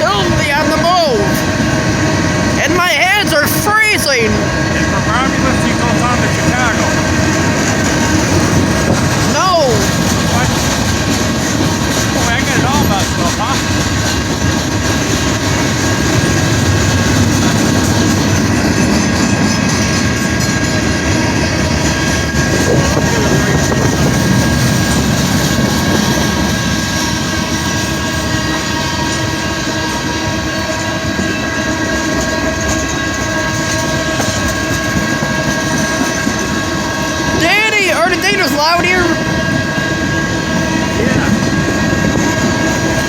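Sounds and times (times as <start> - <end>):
train rolling past on rails: 0.0 - 43.0.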